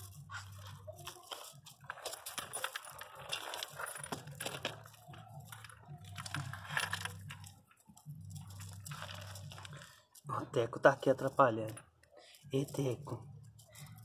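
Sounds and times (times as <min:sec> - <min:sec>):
gravel crunching under dog digging: 0:00.0 - 0:11.8.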